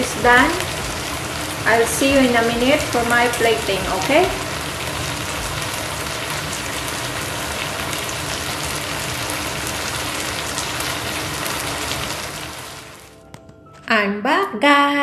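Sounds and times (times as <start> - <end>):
noodles sizzling in wok: 0.0 - 13.2.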